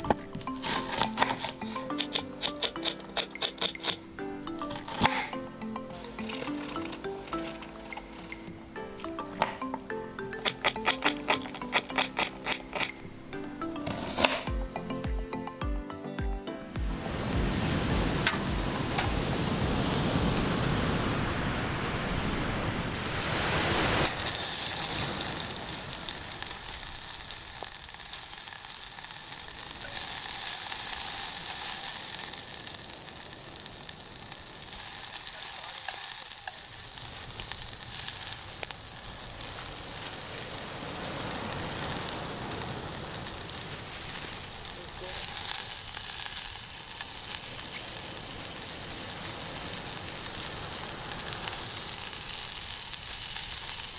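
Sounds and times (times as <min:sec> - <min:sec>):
food sizzling in a pan: 0:00.0 - 0:15.4, 0:17.0 - 0:53.9.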